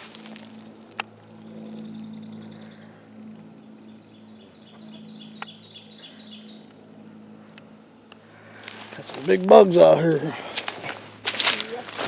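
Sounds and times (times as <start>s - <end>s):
low steady hum: 0.0s - 12.0s
songbirds singing: 0.0s - 12.0s.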